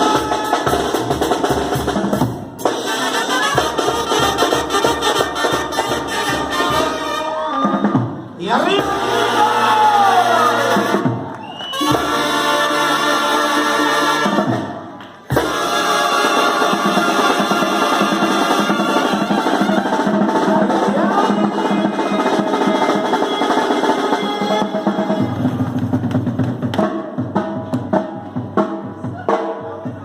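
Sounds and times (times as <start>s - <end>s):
drum-driven party music: 0.0s - 30.0s.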